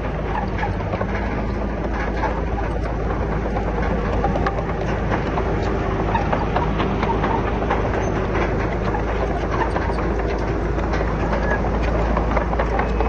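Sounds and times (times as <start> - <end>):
bulldozer diesel engine drone: 0.0 - 13.0
metallic clatter of tracks: 0.0 - 13.0.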